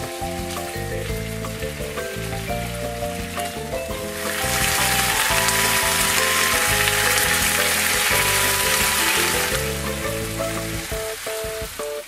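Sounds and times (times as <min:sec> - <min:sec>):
background music: 0:00.0 - 0:12.0
peppers sizzling in a frying pan: 0:00.0 - 0:12.0.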